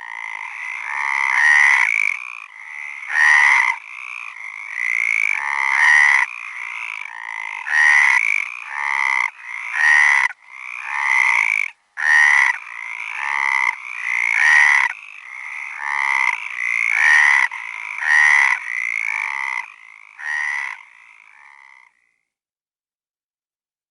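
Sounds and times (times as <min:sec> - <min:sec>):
frogs croaking: 0:00.0 - 0:22.4.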